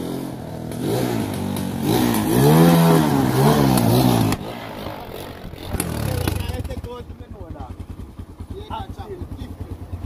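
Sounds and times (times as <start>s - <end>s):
quad bike engine revving: 0.0s - 10.0s.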